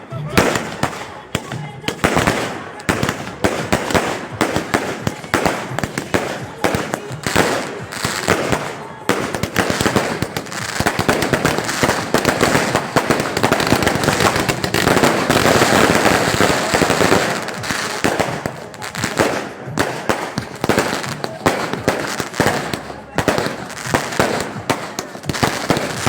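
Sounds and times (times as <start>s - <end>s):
fireworks cracks and pops: 0.0s - 26.0s.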